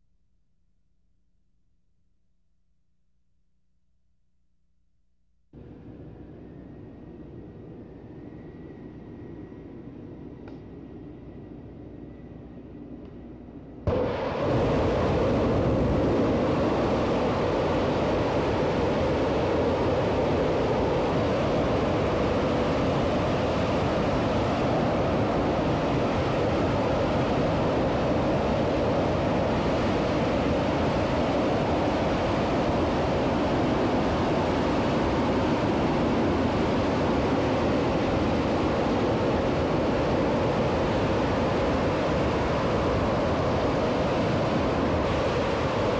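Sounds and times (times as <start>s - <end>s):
distant rocket engine roaring: 5.6s - 45.9s.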